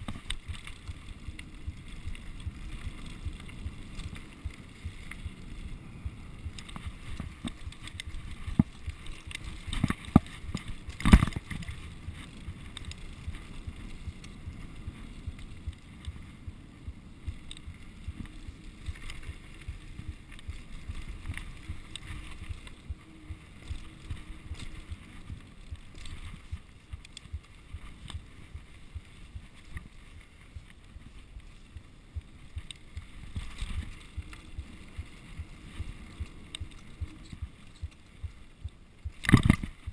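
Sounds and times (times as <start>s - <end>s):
bike knocking and rattling: 0.0s - 39.9s
bike tyres rumbling on dirt: 0.0s - 39.9s
wind on microphone: 0.0s - 39.9s.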